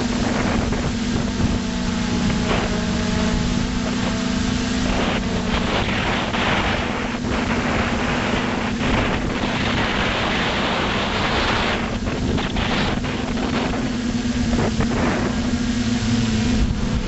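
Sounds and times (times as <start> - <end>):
drone motors buzzing: 0.0 - 17.0
wind noise: 0.0 - 17.0.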